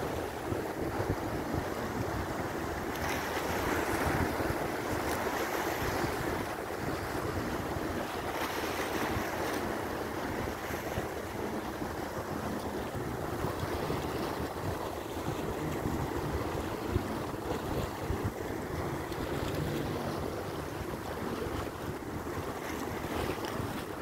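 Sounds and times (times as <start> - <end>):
sea waves washing against rocks: 0.0 - 24.0
wind buffeting microphone: 0.0 - 24.0.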